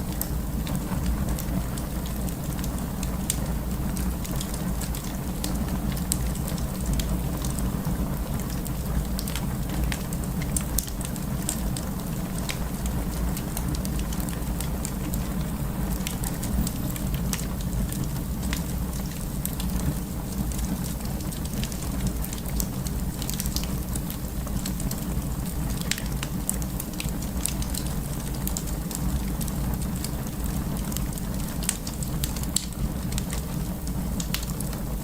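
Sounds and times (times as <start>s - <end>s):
burning logs: 0.0s - 35.0s
wood fire crackling: 0.0s - 35.0s.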